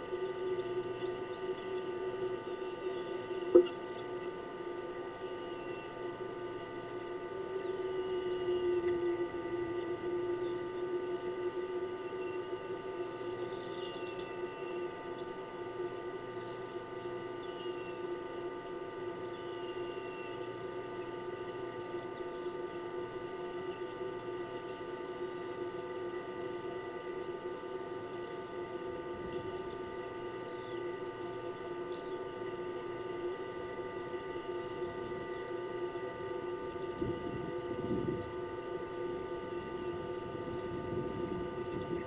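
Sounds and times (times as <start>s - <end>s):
steady tonal hum: 0.0s - 42.0s.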